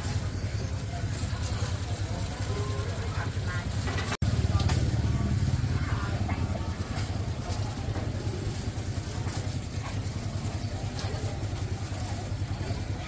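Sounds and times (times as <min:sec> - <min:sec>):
low rumbling motor with flutter: 0:00.0 - 0:13.0.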